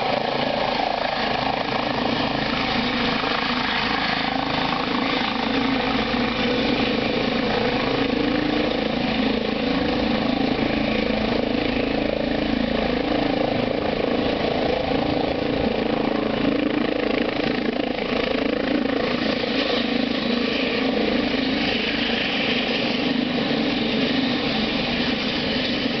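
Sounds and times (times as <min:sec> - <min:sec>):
helicopter rotors and turbines running: 0:00.0 - 0:26.0.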